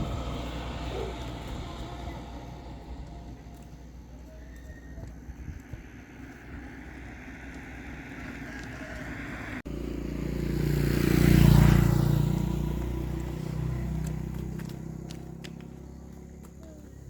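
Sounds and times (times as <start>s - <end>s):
motor vehicle passing by: 0.0s - 17.0s.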